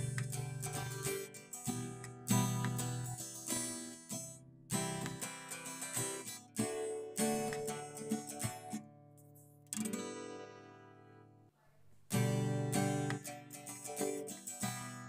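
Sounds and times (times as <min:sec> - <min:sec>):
acoustic guitar strummed chords: 0:00.0 - 0:11.4, 0:12.1 - 0:15.0.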